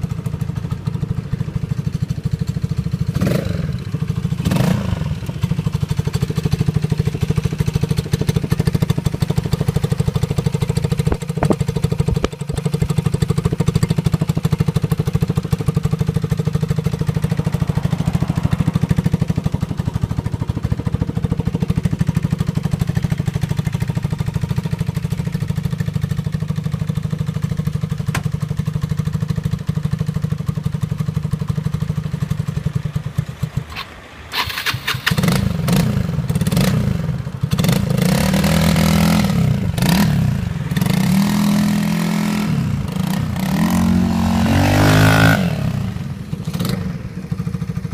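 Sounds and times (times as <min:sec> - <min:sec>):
scooter engine idling: 0:00.0 - 0:47.9.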